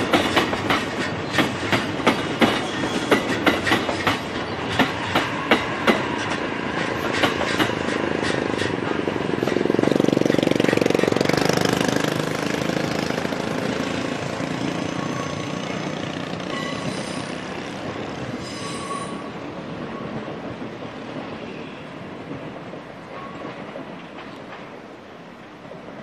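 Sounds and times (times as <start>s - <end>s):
train running noise: 0.0s - 26.0s
train wheels clicking over rail joints: 0.0s - 26.0s.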